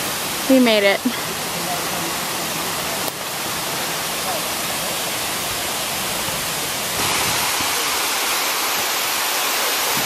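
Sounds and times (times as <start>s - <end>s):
waterfall rushing onto rocks: 0.0s - 10.0s.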